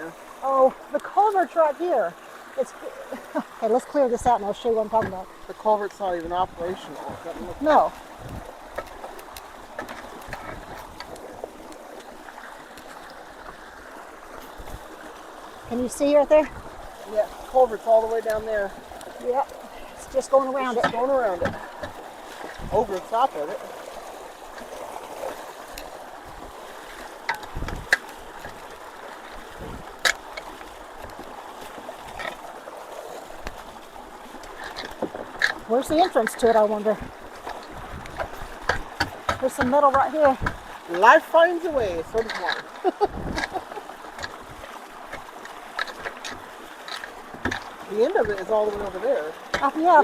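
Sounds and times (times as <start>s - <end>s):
creek water rushing: 0.0s - 50.0s.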